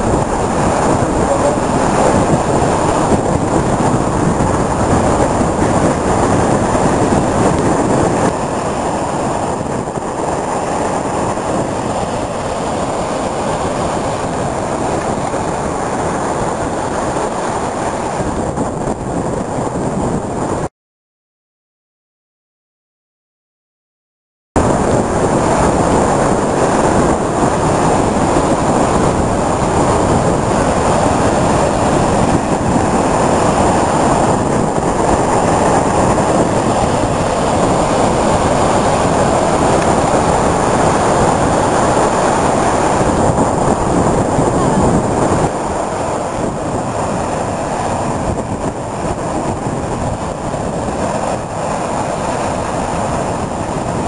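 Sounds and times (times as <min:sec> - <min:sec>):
heavy surf breaking on rocks: 0:00.0 - 0:20.7, 0:24.6 - 0:54.0.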